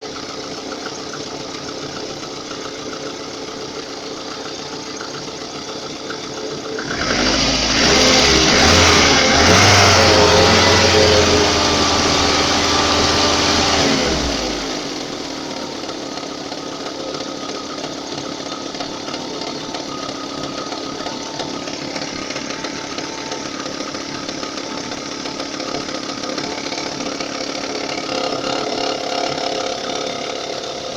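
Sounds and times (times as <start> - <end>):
car engine idling with knock: 0.0 - 30.9.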